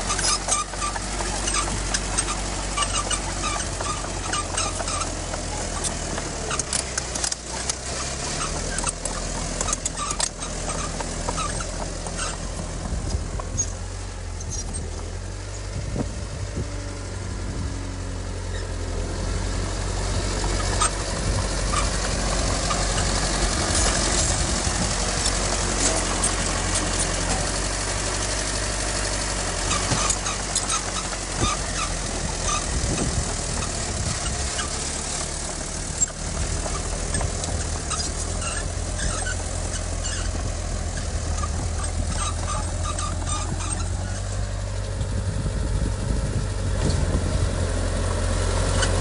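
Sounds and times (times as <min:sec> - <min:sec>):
short squeaks: 0:00.0 - 0:16.1, 0:18.2 - 0:45.3, 0:48.6 - 0:49.0
heavy machinery diesel engine humming: 0:00.0 - 0:49.0.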